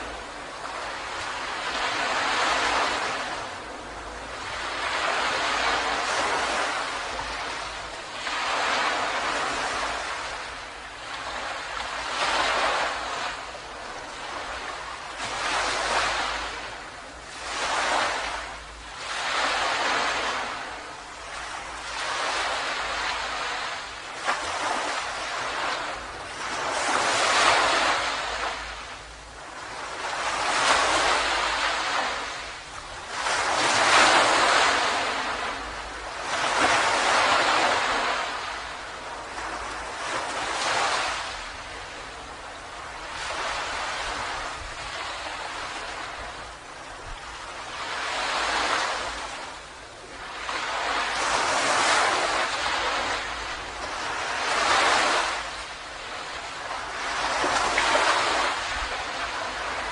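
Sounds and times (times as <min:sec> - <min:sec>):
ocean waves breaking on a beach: 0:00.0 - 0:59.9.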